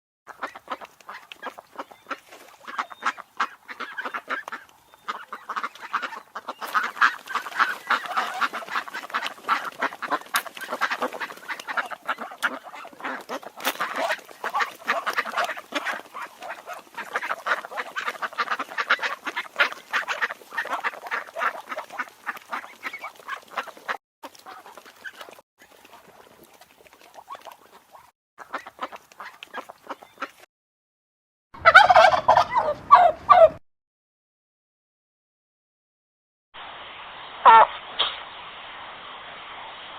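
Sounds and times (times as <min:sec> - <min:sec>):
ducks quacking: 0:00.3 - 0:30.5, 0:31.6 - 0:33.6, 0:37.4 - 0:37.7.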